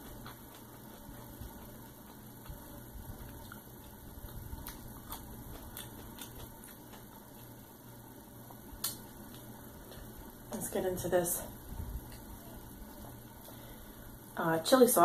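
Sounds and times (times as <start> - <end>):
person chewing food: 0.0 - 10.4, 11.6 - 14.1
faint low hum: 0.0 - 15.0.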